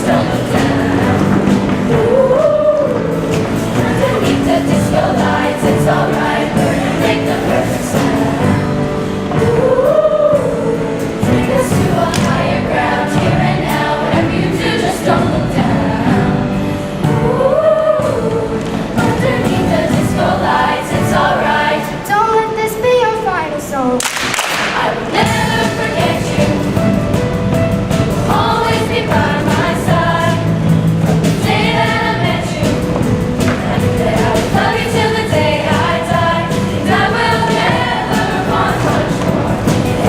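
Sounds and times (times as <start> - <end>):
choir singing in harmony: 0.0 - 22.2, 24.4 - 40.0.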